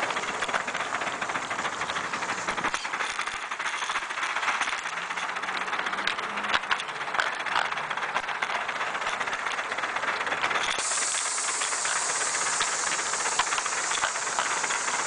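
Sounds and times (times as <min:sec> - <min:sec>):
small wheels clattering on rails: 0:00.0 - 0:15.0.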